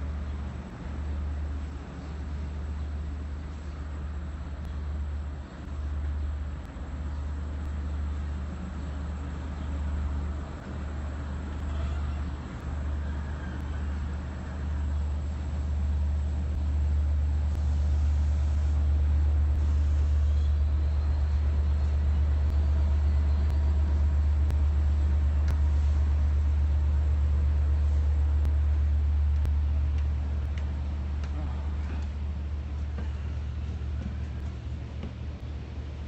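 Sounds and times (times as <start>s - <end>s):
diesel train idling drone: 0.0s - 36.0s.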